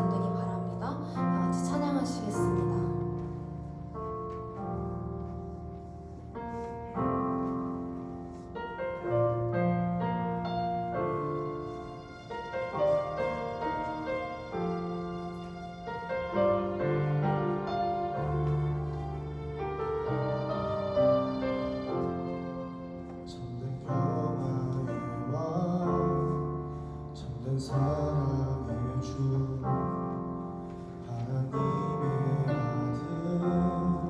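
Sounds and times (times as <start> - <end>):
slow gentle piano: 0.0 - 34.0.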